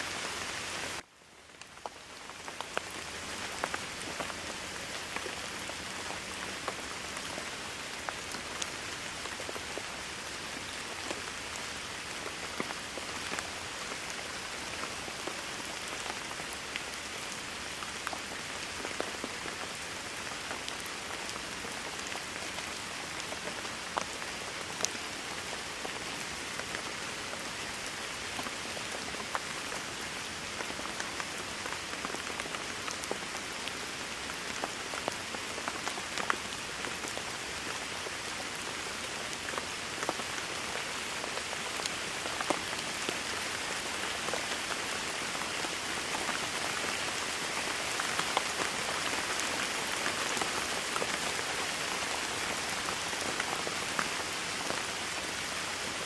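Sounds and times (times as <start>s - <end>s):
raindrops striking close by: 0.0s - 56.0s
steady rain hiss: 0.0s - 56.0s.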